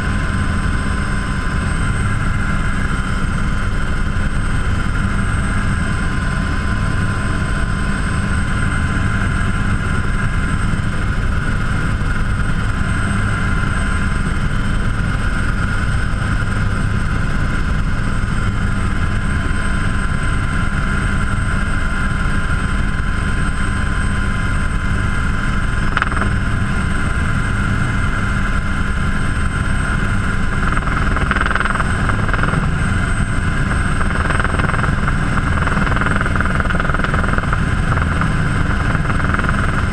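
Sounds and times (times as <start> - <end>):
helicopter rotor rumble: 0.0 - 39.9
high-pitched turbine whine: 0.0 - 39.9.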